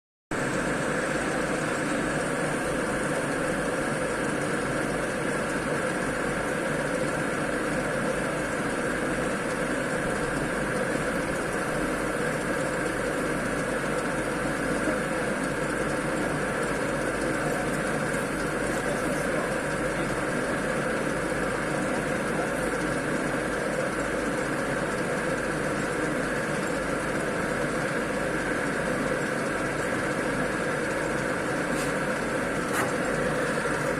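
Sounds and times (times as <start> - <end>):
mixer machine motor hum: 0.4 - 33.9.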